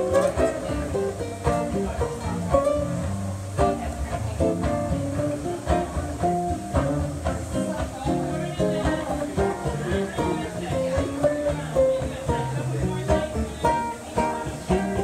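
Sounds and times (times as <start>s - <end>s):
fingerpicked classical guitar: 0.0s - 15.0s.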